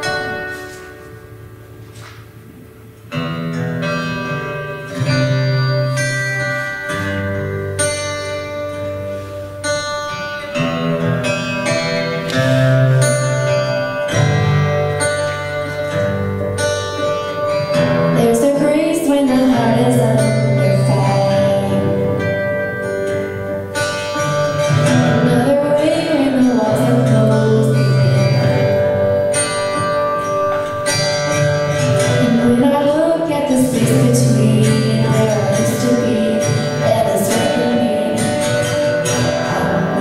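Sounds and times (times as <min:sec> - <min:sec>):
church worship music: 0:00.0 - 0:40.0.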